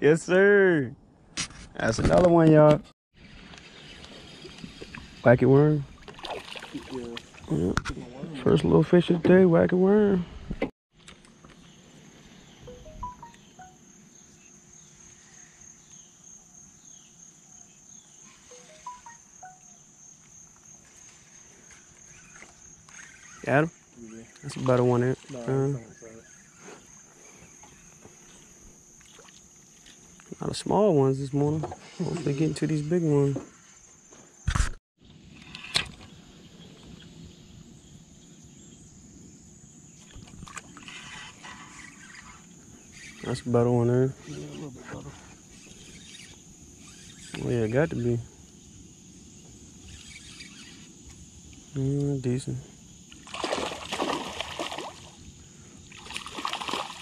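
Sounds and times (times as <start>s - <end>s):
insects chirping: 2.6s - 10.3s, 10.9s - 57.0s.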